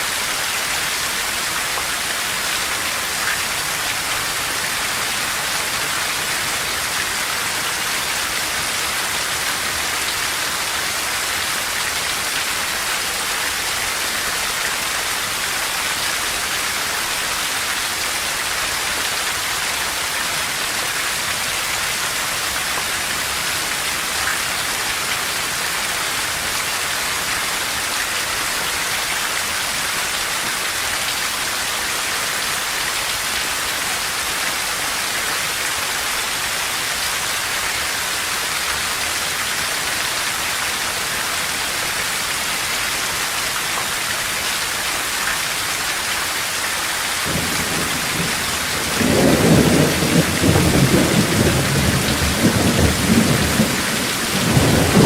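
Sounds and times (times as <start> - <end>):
heavy rain on forest: 0.0 - 55.0.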